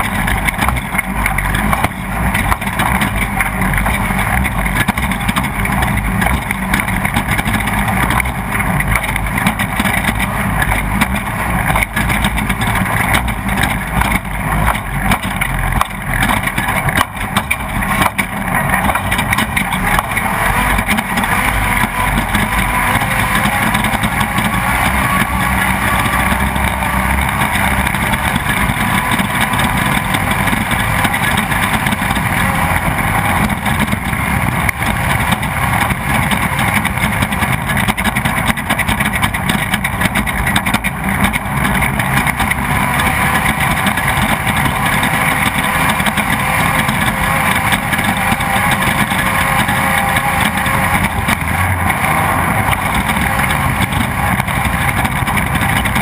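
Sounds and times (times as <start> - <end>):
knocks and rattles: 0.0 - 56.0
race vehicle engine running hard: 0.0 - 56.0.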